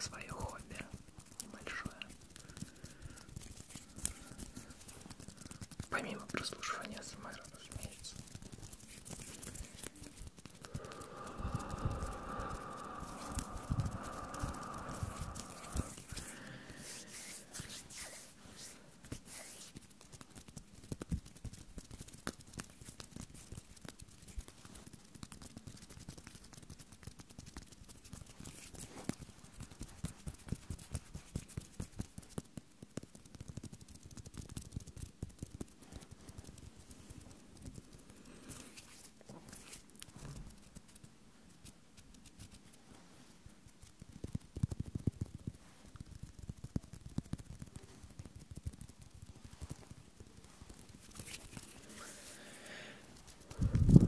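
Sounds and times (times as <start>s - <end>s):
hands rubbing together: 0.0s - 32.4s, 33.1s - 54.0s.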